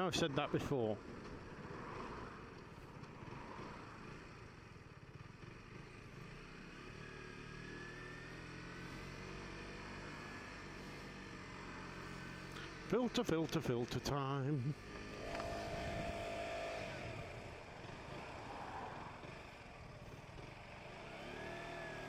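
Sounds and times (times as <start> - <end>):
wind and road rush: 0.0 - 14.1, 14.7 - 22.0
motorcycle engine running: 1.0 - 22.0.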